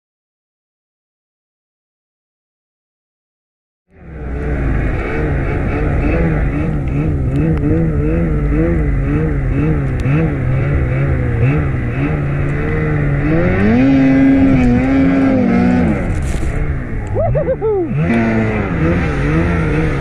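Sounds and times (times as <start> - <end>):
snowmobile engine running: 3.9 - 20.0.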